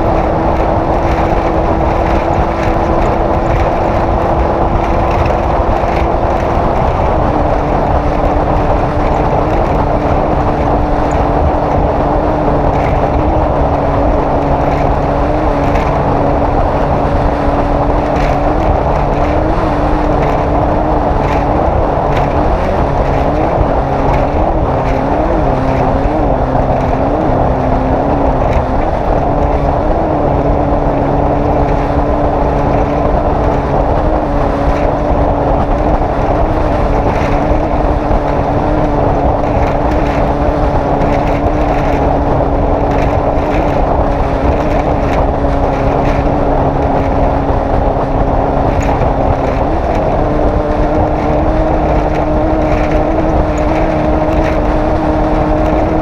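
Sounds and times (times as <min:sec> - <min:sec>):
race vehicle engine running: 0:00.0 - 0:56.0
road and wind noise: 0:00.0 - 0:56.0.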